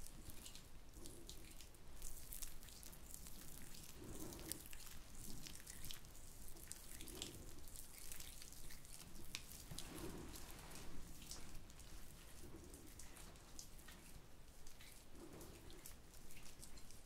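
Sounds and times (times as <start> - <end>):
hands rubbing wet squishing: 0.0 - 17.0.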